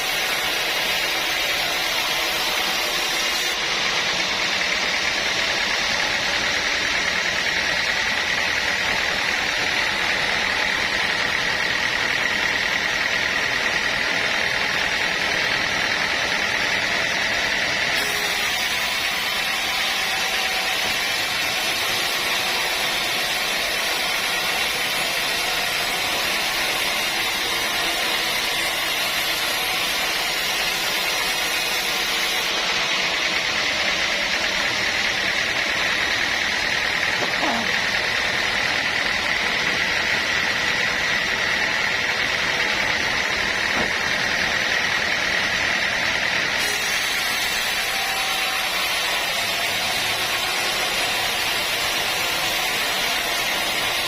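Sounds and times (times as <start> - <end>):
sawmill saw running: 0.0 - 54.0.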